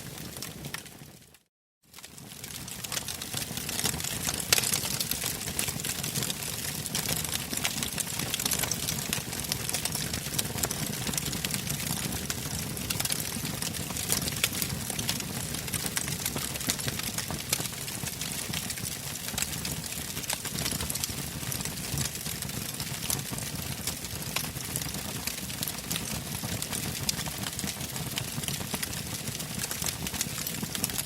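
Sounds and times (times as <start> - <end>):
logs crackling and popping: 0.0 - 31.0.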